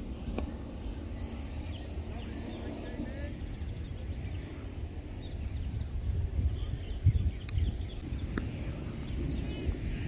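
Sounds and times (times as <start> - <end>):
low fluctuating rumble: 0.0 - 10.0.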